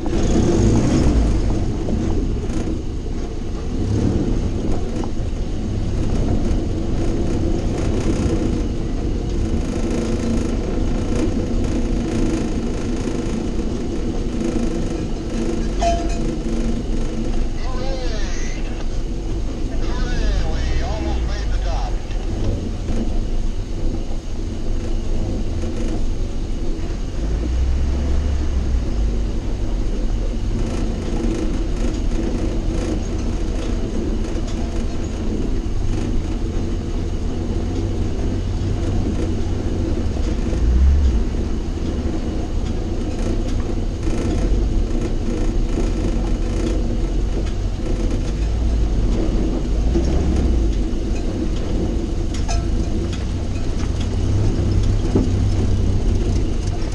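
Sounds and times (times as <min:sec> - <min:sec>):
jeep engine running: 0:00.0 - 0:56.9.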